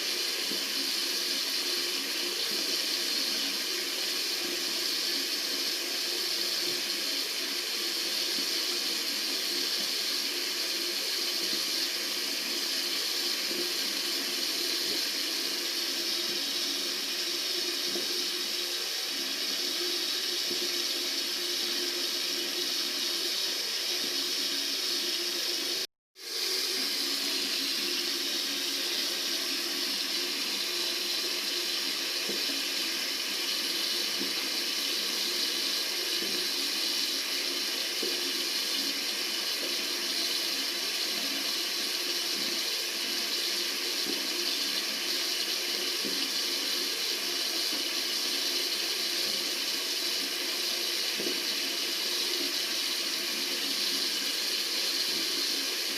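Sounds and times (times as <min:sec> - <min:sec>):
tap water running: 0:00.0 - 0:55.9.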